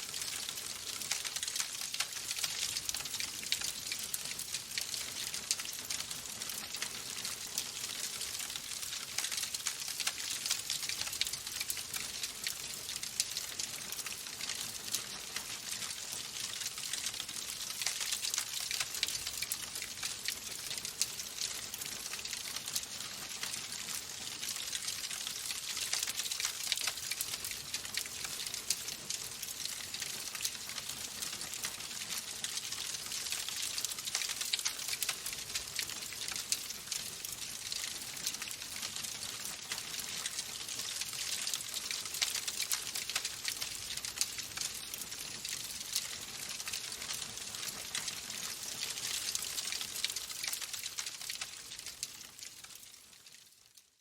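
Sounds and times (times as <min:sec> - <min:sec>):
wood fire crackling: 0:00.0 - 0:53.6.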